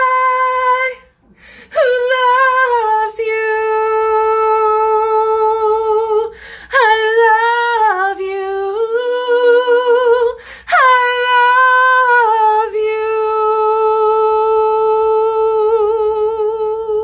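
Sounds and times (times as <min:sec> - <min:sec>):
woman singing wordless notes: 0:00.0 - 0:01.1, 0:01.7 - 0:17.0.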